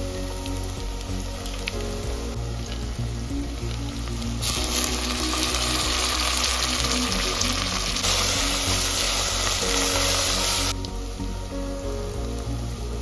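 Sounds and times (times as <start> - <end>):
background music: 0.0 - 13.0
food sizzling in hot oil: 0.0 - 13.0.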